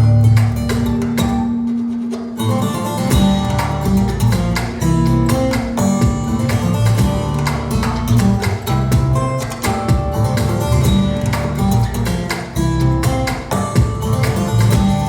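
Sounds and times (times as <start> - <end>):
acoustic guitar music over loudspeakers: 0.0 - 15.0.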